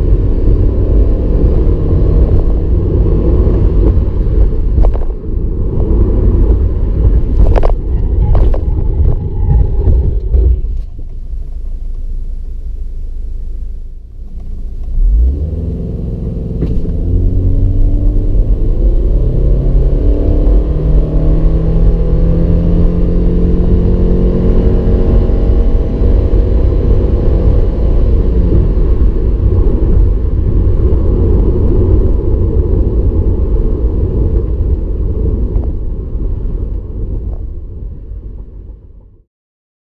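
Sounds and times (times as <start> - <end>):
car engine driving: 0.0 - 39.2
heavy low rumble: 0.0 - 39.3.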